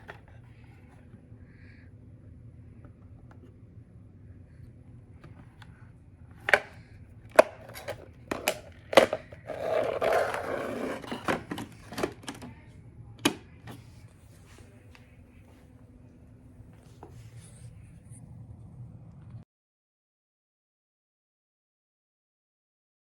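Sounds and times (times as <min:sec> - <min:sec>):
faint low hum: 0:00.0 - 0:19.4.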